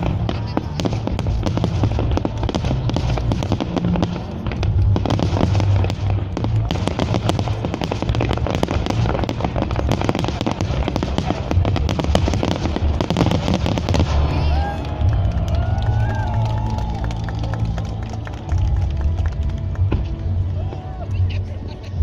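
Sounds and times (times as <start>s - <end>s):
firework shells bursting and crackling: 0.0s - 20.5s.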